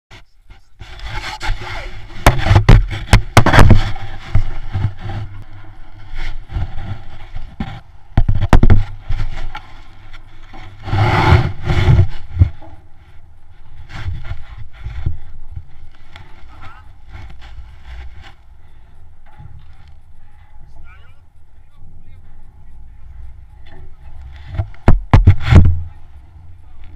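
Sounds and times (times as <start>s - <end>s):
microphone handling noise: 0.1s - 21.0s, 23.2s - 26.9s.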